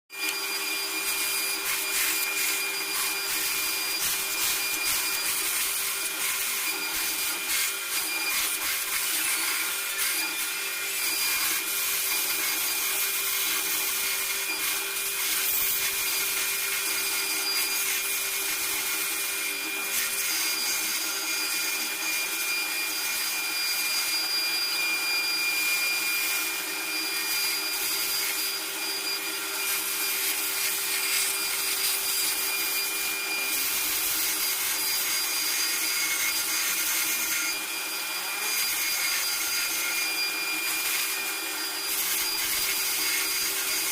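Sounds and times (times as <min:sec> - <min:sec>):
power tool cutting wood: 0:00.1 - 0:43.9.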